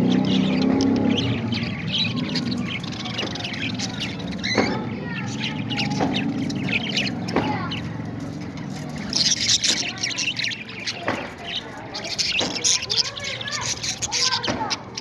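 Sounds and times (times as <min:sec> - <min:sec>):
parrots chattering: 0:00.0 - 0:15.0.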